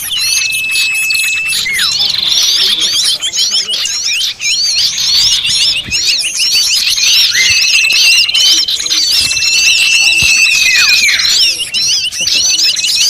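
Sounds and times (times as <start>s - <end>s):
long level whistle: 0.0s - 2.1s, 4.6s - 13.0s
small birds chirping in chorus: 0.0s - 13.0s.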